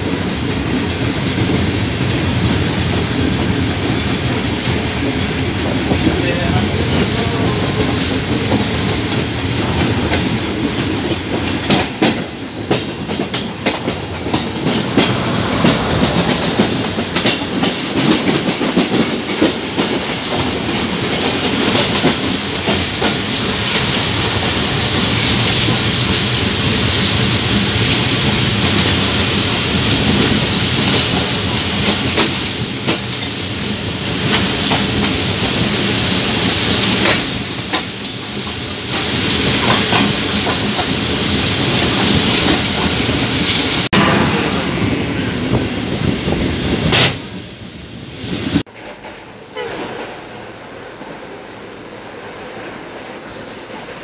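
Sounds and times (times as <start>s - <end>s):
train track rumble: 0.0s - 54.0s
wheels clicking over rail joints: 0.4s - 43.7s.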